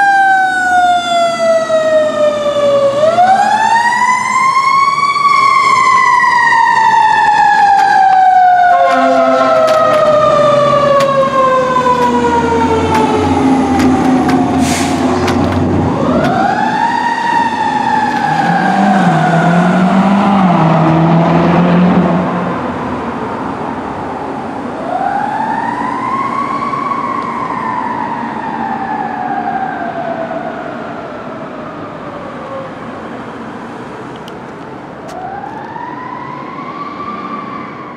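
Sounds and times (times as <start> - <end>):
fire engine siren wailing: 0.0 - 37.9.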